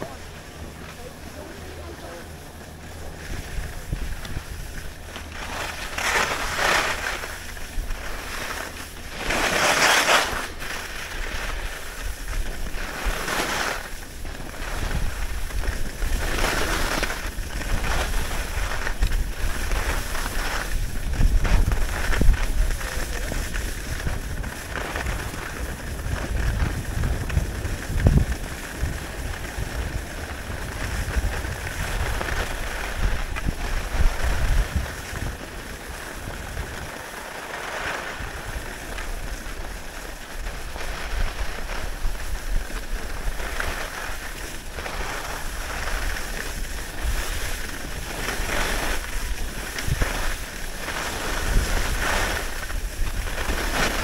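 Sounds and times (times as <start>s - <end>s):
wind buffeting microphone: 0.0s - 9.5s, 10.3s - 54.0s
skis sliding on snow: 0.0s - 54.0s.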